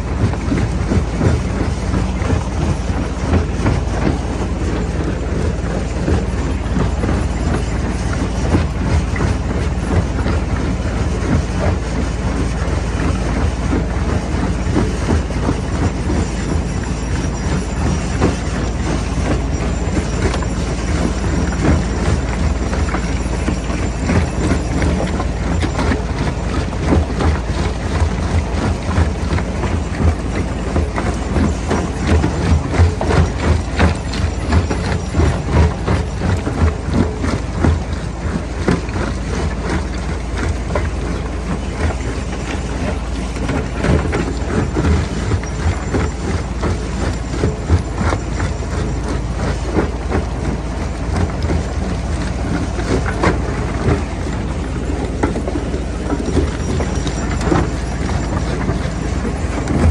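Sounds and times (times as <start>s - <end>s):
jaw crusher machine drone: 0.0s - 59.9s.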